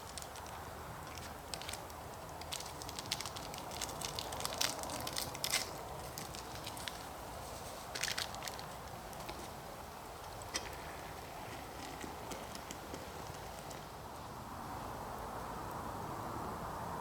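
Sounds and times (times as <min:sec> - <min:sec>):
campfire crackling and popping: 0:00.0 - 0:14.4.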